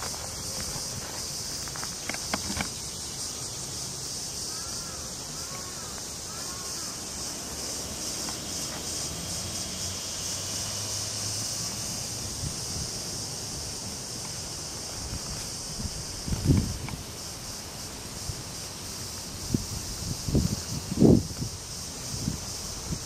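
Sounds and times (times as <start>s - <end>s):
cicadas chorus: 0.0s - 23.0s.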